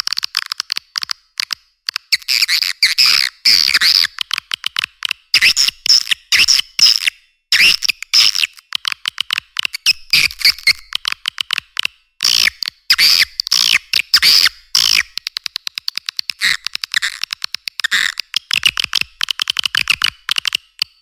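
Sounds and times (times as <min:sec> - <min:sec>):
swiftlet clicks and twittering chirps: 0:00.5 - 0:21.0.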